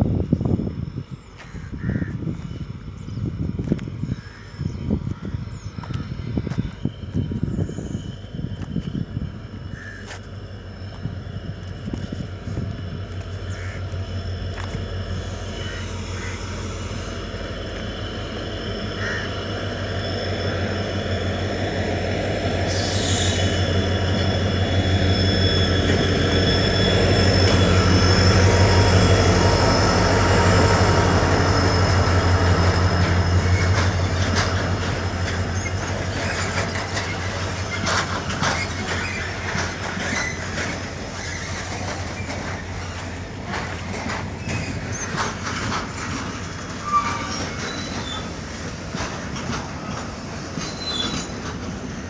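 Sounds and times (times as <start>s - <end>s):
train rumbling on rails: 0.0s - 52.0s
high wheel squeal: 5.6s - 52.0s.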